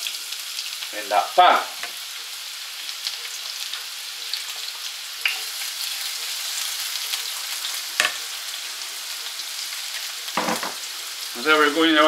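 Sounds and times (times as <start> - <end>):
onions sizzling in frying pan: 0.0 - 12.0.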